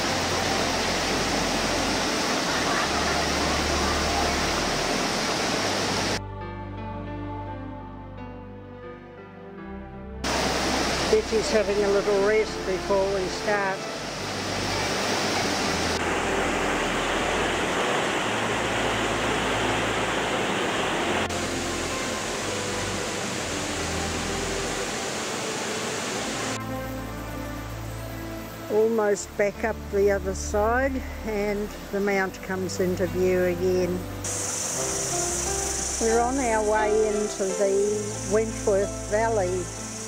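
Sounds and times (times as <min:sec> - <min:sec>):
waterfall rushing over rocks: 0:00.0 - 0:06.2, 0:10.2 - 0:40.0.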